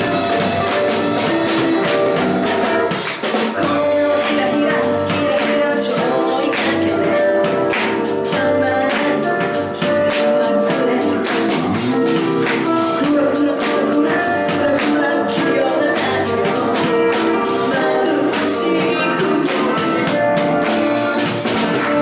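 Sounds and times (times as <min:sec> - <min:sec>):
accompanying instruments: 0:00.0 - 0:22.0
drums and cymbals: 0:00.0 - 0:22.0
woman singing into microphone: 0:03.6 - 0:22.0.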